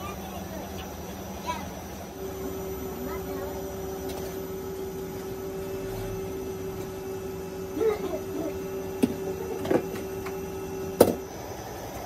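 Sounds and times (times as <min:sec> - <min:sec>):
grinding mill humming: 0:00.0 - 0:12.0.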